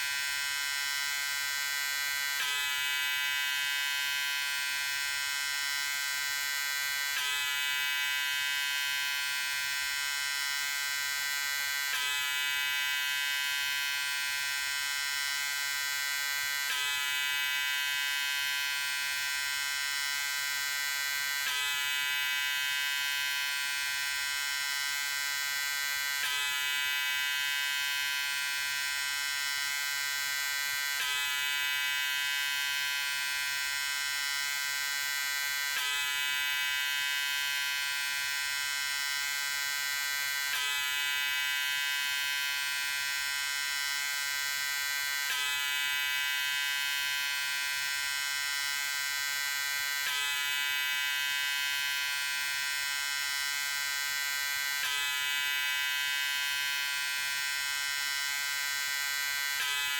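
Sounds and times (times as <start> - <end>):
electric shaver buzzing: 0.0 - 59.9.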